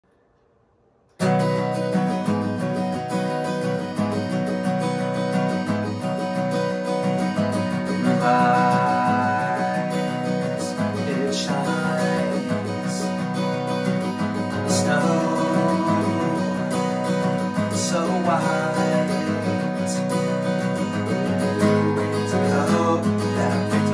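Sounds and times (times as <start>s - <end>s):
acoustic guitar strumming: 1.1s - 23.9s.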